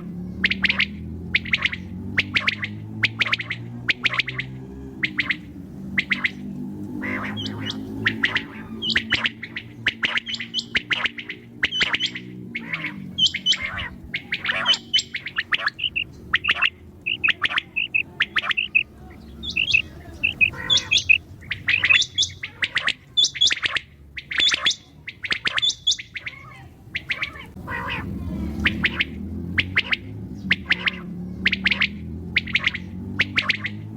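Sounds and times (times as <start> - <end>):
quail chirping calls: 0.0 - 33.9.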